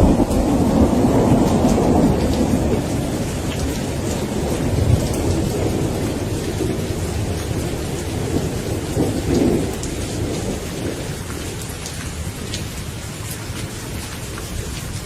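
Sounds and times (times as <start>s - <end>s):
rolling thunder: 0.0s - 12.9s
steady rain: 0.0s - 15.0s.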